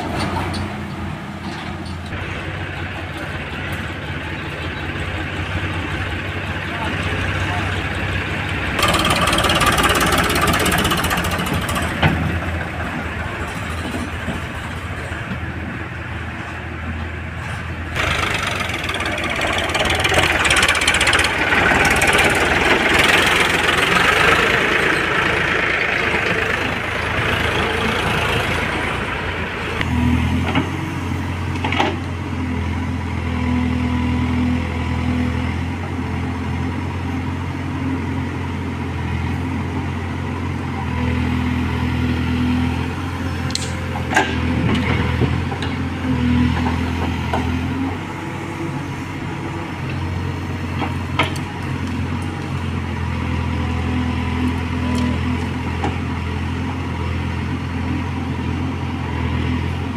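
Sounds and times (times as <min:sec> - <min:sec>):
backhoe diesel engine digging: 0:00.0 - 0:59.9
tractor diesel engine running: 0:00.0 - 0:59.9.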